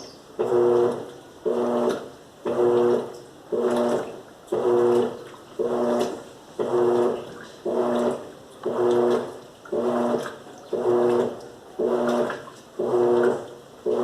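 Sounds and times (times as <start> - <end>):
washing machine motor humming: 0.0 - 14.0
water sloshing: 0.0 - 14.0.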